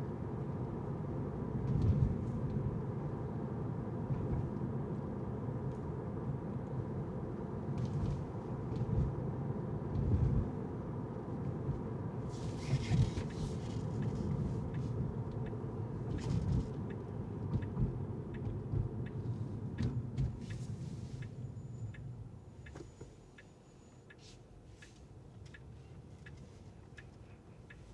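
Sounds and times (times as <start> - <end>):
car tyres and engine rumble: 0.0 - 27.9.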